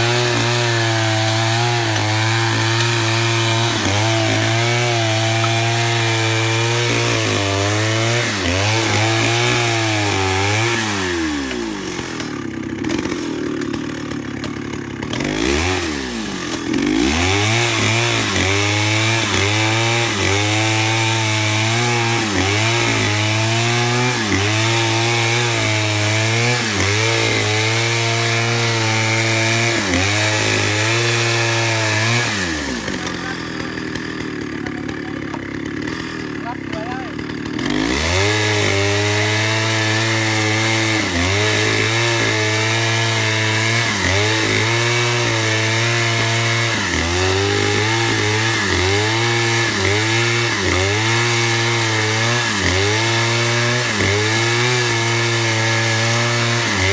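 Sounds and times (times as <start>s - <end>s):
chainsaw cutting a log: 0.0s - 56.9s.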